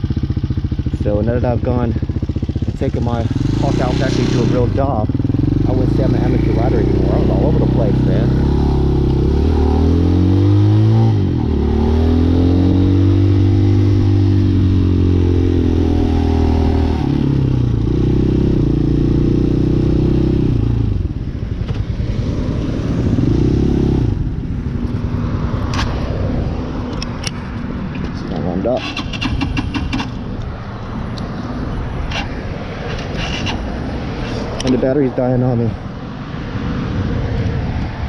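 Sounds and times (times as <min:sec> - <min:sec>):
motorcycle engine revving: 0:00.0 - 0:36.2.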